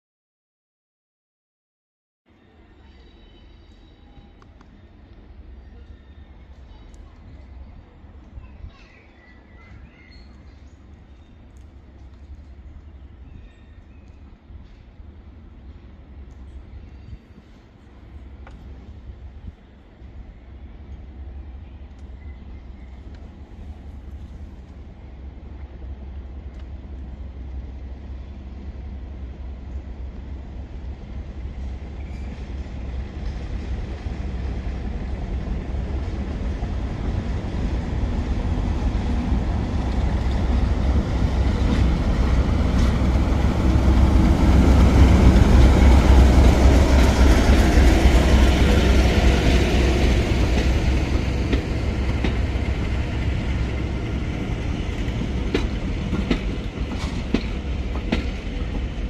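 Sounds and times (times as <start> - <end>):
diesel locomotive rumbling: 3.2 - 59.0.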